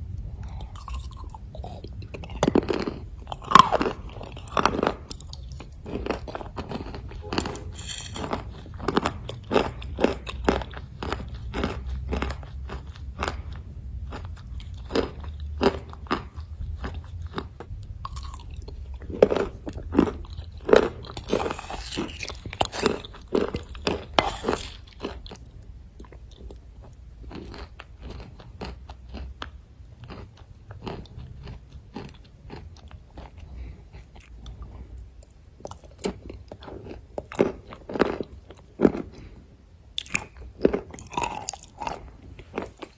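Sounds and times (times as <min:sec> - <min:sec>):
chewing and crunching clay: 0:00.0 - 0:42.9
low steady hum: 0:00.0 - 0:42.9.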